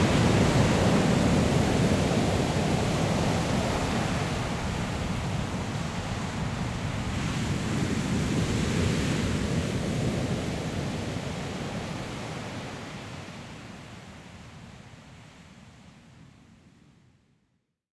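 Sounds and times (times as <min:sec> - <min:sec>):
wind: 0:00.0 - 0:16.8.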